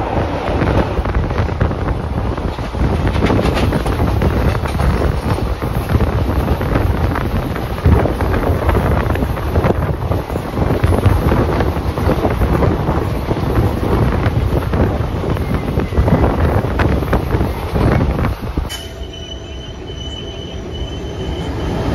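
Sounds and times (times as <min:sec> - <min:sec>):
wind buffeting microphone: 0:00.0 - 0:18.8
train wheels knocking and clattering: 0:00.0 - 0:19.0
train running at speed: 0:00.0 - 0:21.9.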